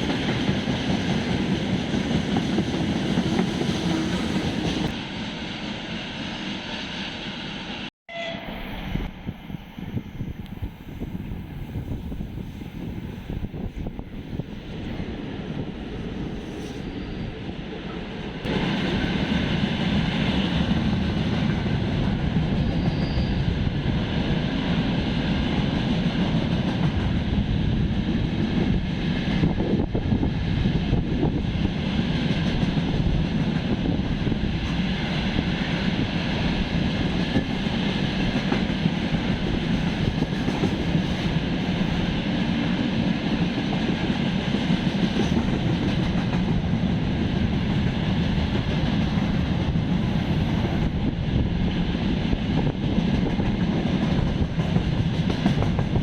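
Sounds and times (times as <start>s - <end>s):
train wheels rumbling on track: 0.0s - 5.2s, 8.6s - 56.0s.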